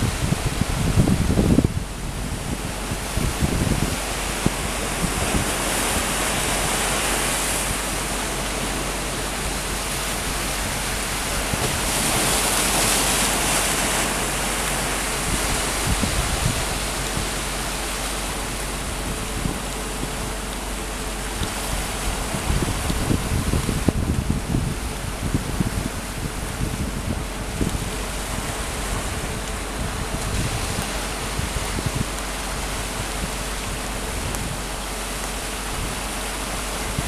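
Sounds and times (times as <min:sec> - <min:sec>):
steady rushing outdoor noise: 0:00.0 - 0:37.0.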